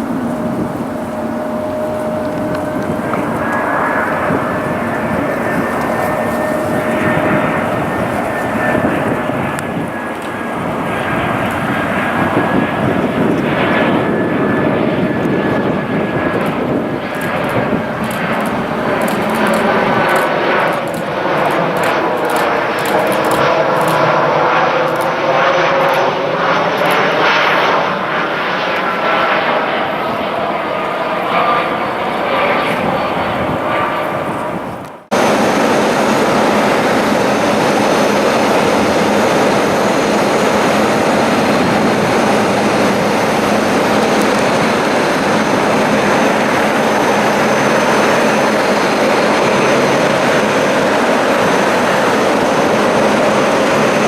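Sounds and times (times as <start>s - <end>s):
jet airliner engines: 0.0s - 54.0s
thin high whine: 0.0s - 54.0s.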